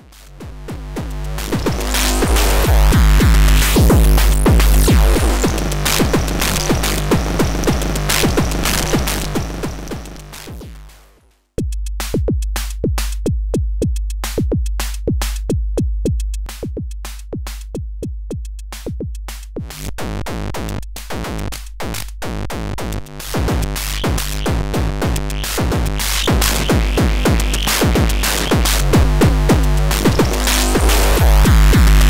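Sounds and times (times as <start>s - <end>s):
distorted drum machine kick and toms: 0.0s - 32.0s.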